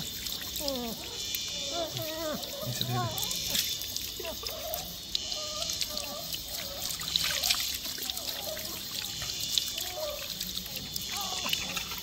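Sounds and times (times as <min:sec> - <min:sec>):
small splashes and drips: 0:00.0 - 0:12.0
water trickling and pouring: 0:00.0 - 0:12.0.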